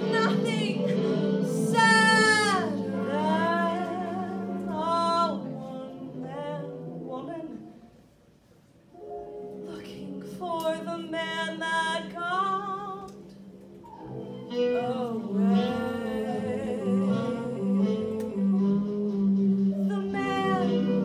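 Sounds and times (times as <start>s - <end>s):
woman singing ballad: 0.0s - 7.7s, 9.7s - 13.2s, 14.6s - 21.0s.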